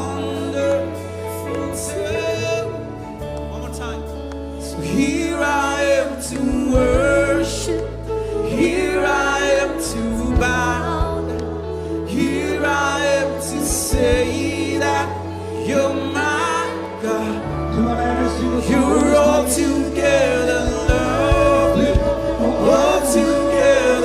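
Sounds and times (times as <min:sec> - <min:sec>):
keyboard chords: 0:00.0 - 0:24.0
steady bass: 0:00.0 - 0:24.0
person singing: 0:04.6 - 0:24.0.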